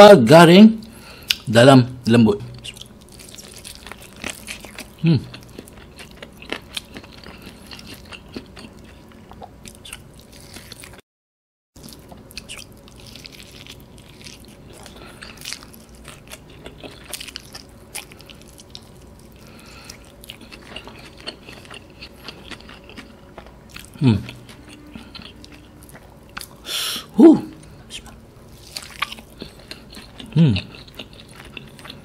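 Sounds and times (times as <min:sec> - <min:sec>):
chewing crunchy fried chicken: 0:02.5 - 0:11.0, 0:11.8 - 0:26.7, 0:27.5 - 0:32.0.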